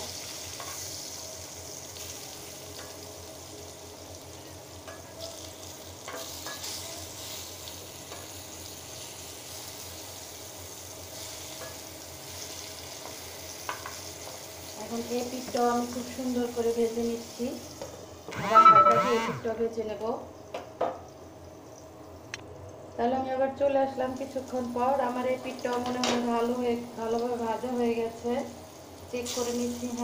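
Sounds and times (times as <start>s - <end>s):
food sizzling in oil: 0.0s - 19.4s, 23.5s - 30.0s.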